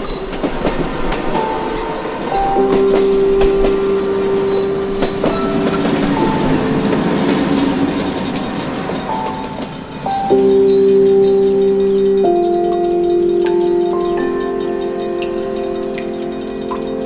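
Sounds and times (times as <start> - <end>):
train wheels clattering: 0.0 - 17.0
background music held chords: 0.7 - 17.0.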